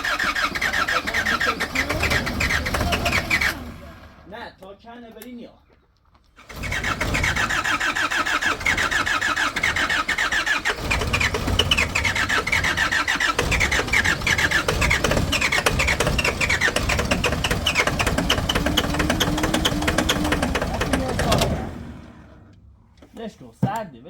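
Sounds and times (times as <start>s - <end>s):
engine cranking on starter: 0.0s - 4.4s, 6.4s - 22.7s.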